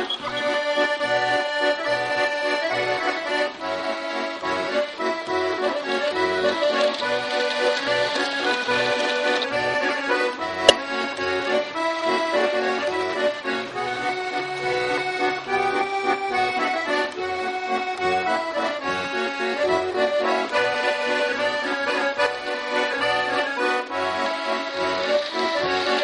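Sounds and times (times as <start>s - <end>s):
folk tune on accordion: 0.0s - 26.0s.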